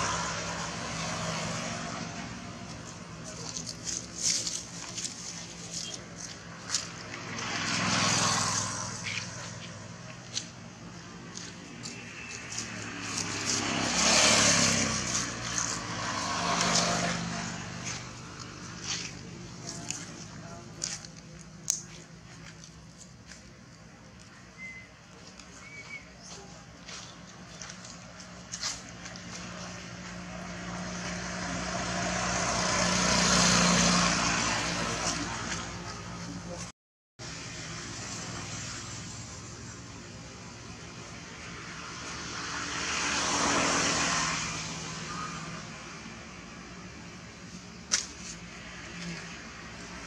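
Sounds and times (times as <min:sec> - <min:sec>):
motor vehicle passing by: 0:00.0 - 0:21.4, 0:25.6 - 0:39.8, 0:40.5 - 0:50.0.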